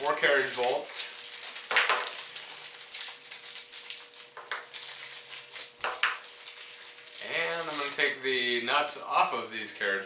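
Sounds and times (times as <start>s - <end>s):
rustling: 0.0s - 8.2s.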